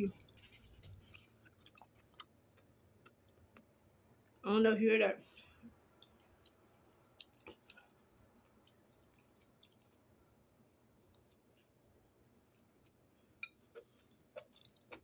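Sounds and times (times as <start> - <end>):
faint chewing: 0.0 - 4.4, 5.4 - 15.0.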